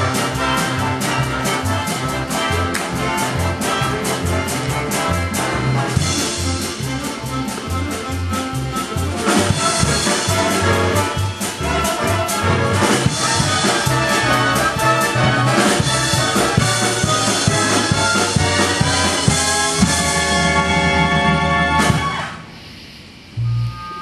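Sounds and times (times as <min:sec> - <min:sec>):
brass-led orchestral music: 0:00.0 - 0:22.4.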